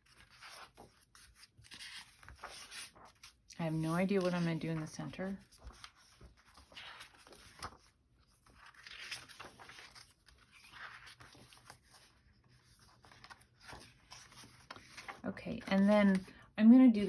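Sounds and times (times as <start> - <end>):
paper sheets rustling: 0.0 - 17.0.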